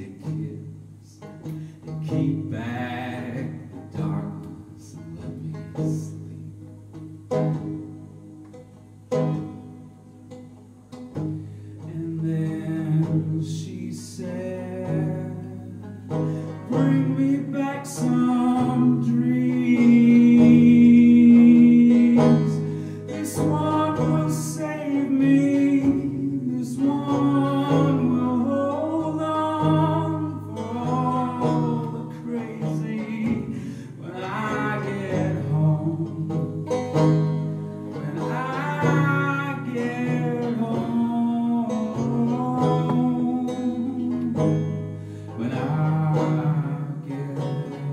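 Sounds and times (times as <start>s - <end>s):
banjo-guitar playing: 0.0s - 47.9s
man singing a folk song: 0.0s - 47.9s.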